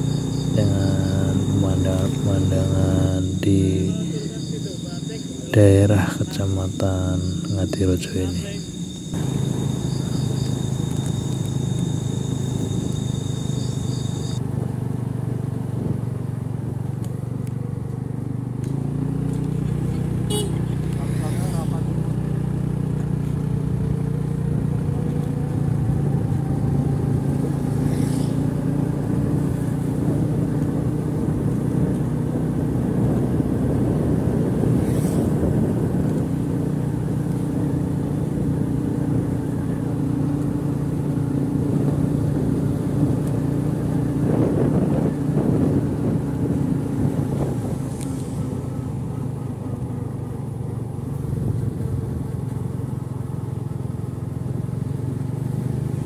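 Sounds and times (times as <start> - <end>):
motorcycle engine running: 0.0 - 7.5, 8.6 - 56.0
road rumble: 0.0 - 56.0
wind: 0.0 - 56.0.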